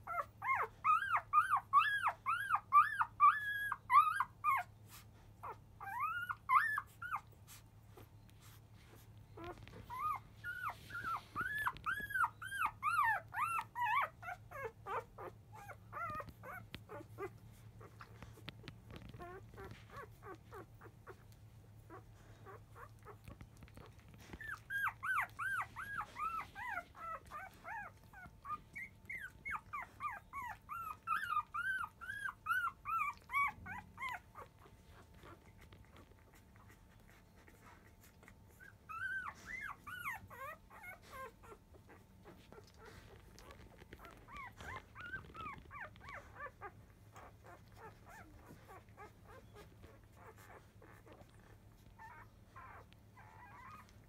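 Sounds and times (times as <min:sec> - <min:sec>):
puppies squealing and whimpering: 0:00.0 - 0:54.0.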